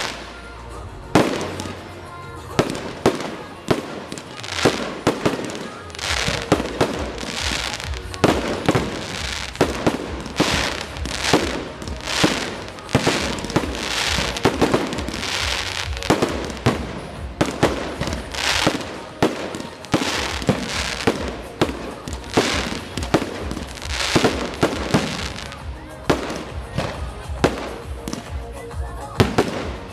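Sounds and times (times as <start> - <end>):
fireworks hissing: 0.0 - 28.5
firework bangs: 1.1 - 28.4.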